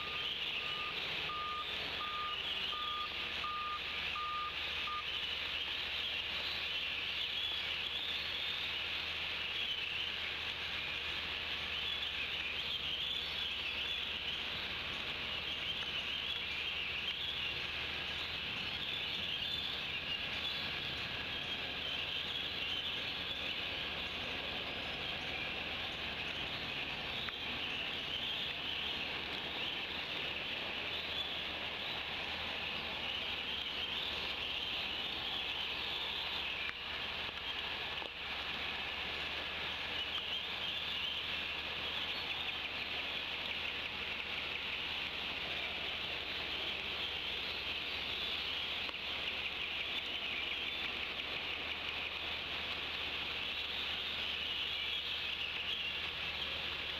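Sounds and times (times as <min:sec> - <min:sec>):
rain falling on leaves: 0:00.0 - 0:56.9.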